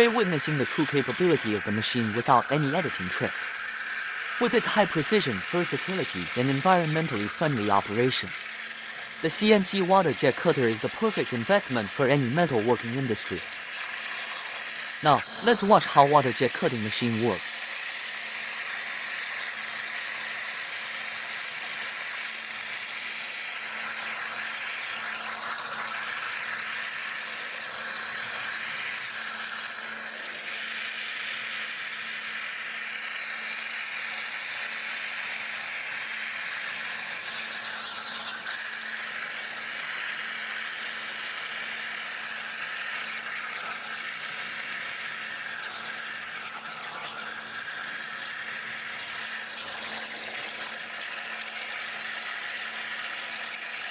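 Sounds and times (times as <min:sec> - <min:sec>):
water jet hissing: 0:00.0 - 0:21.2, 0:23.6 - 0:31.0, 0:35.6 - 0:53.9.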